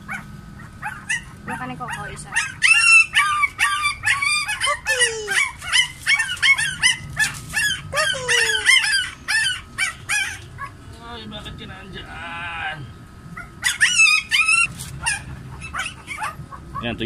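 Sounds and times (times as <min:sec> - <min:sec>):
puppies crying and yelping: 0:00.0 - 0:10.9, 0:13.3 - 0:17.0.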